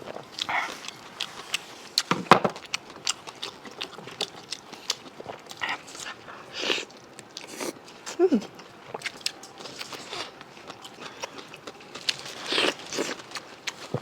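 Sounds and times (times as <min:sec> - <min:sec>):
person chewing and biting: 0:00.1 - 0:07.8, 0:08.9 - 0:14.0.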